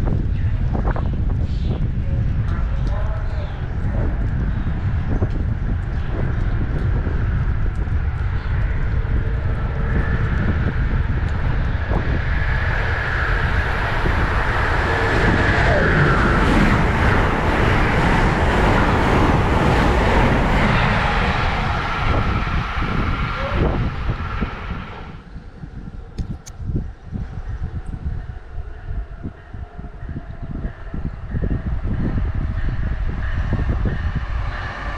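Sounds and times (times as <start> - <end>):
train passing rumble: 0.0 - 34.9.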